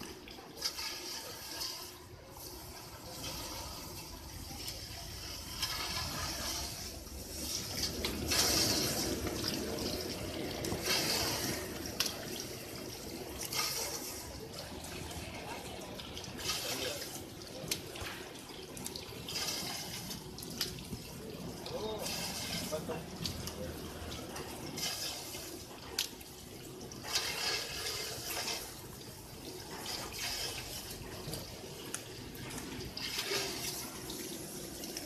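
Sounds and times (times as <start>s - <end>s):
water gushing and splashing: 0.0s - 35.0s.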